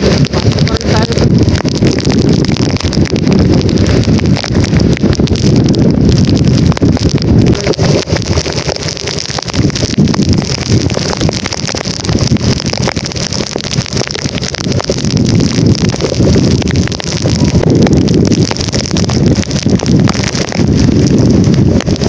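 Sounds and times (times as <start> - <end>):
hiss of wet road and rain: 0.0 - 22.0
rain spatter on microphone: 0.0 - 22.0
wind buffeting microphone: 0.0 - 22.0.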